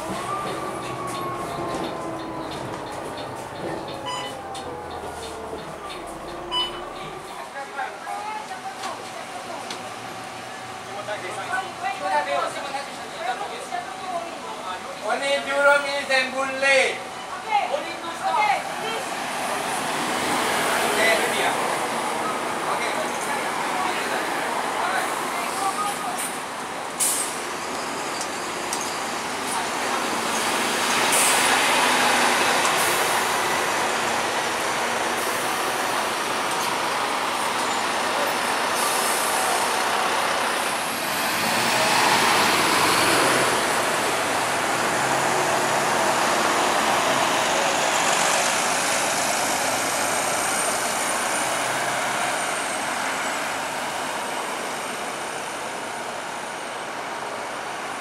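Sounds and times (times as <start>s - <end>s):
bus engine pulling away: 0.0s - 15.8s, 18.6s - 58.0s
surrounding traffic: 0.0s - 58.0s.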